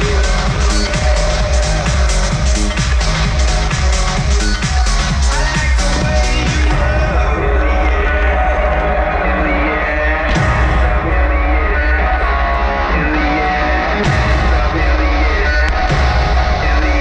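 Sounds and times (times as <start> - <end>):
rock music over loudspeakers: 0.0 - 17.0.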